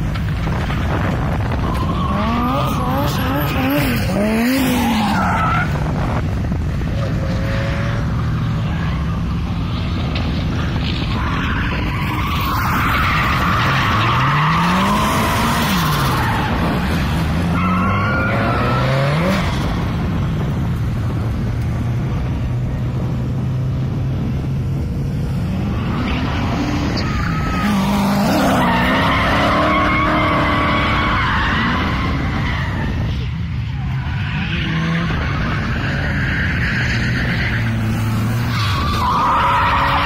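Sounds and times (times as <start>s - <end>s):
car engine revving: 0.1s - 33.0s.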